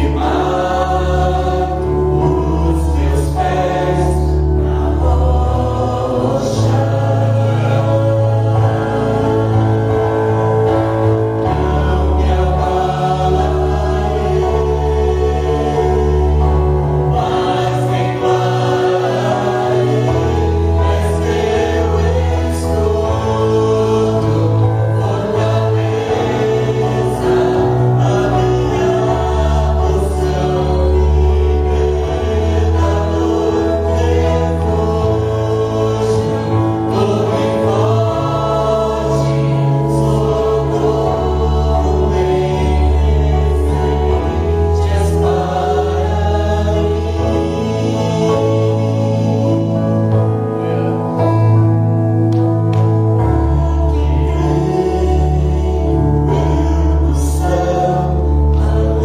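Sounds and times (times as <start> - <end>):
gospel voices singing: 0.0 - 59.0
sustained bass notes: 0.0 - 59.0.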